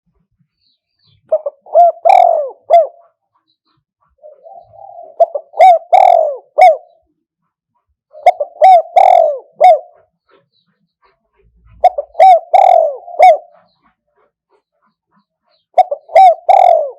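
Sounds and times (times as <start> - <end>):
dove cooing: 1.1 - 7.2, 8.1 - 16.9.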